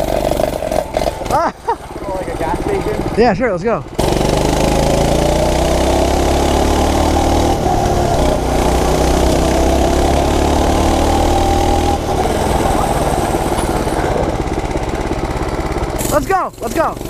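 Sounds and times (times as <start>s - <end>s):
mini bike engine running: 0.0s - 17.0s.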